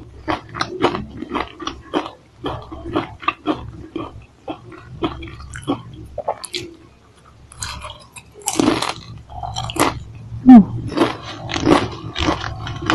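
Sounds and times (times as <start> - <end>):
crunching and chewing potato chips: 0.0 - 12.9.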